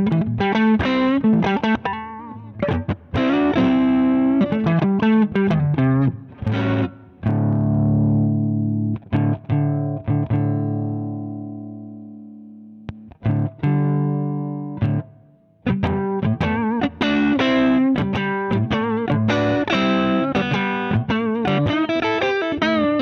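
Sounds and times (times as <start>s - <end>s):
overdriven electric guitar riff: 0.0s - 23.0s.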